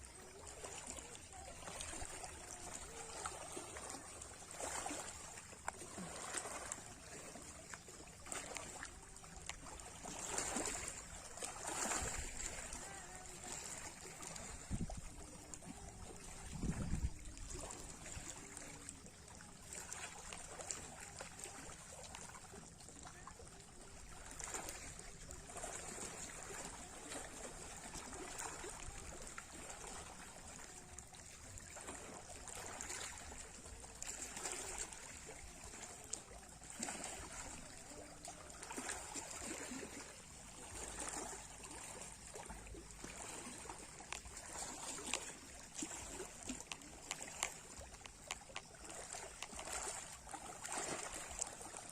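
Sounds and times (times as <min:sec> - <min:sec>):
small waves lapping: 0:00.0 - 0:51.9.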